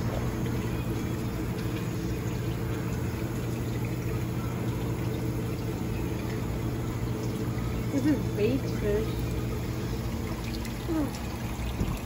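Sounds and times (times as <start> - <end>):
water pouring: 0.0 - 12.0
water pump humming: 0.0 - 12.0.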